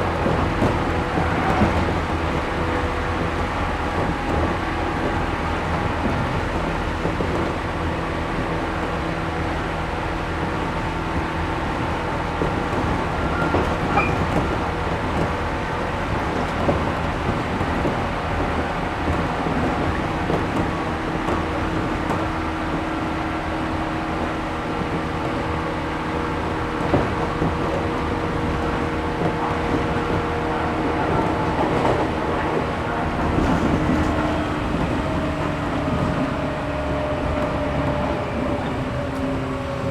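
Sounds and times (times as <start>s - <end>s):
train knocks: 0.0s - 39.9s
train wheels rumbling on rail: 0.0s - 39.9s.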